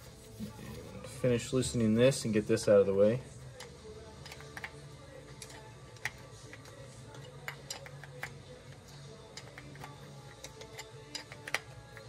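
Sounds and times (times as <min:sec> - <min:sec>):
faint background music: 0:00.0 - 0:12.0.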